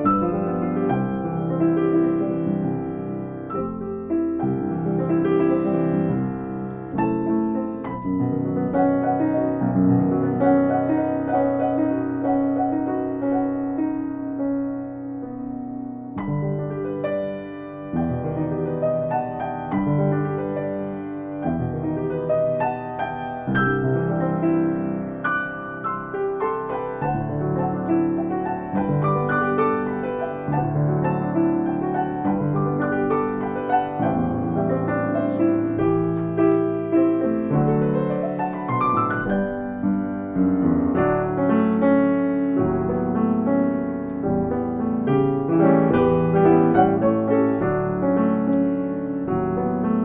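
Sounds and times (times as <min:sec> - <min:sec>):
slow gentle piano piece: 0:00.0 - 0:50.0.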